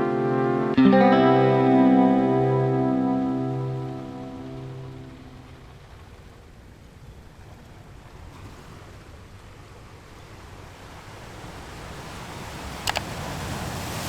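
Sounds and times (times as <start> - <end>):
sea waves: 0.8 - 14.0.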